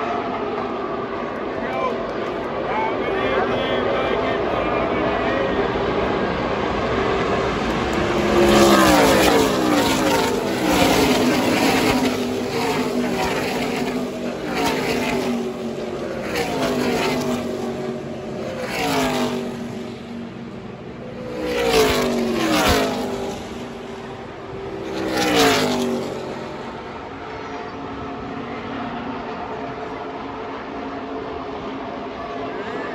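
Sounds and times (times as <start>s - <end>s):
race car engines passing: 0.0s - 32.9s.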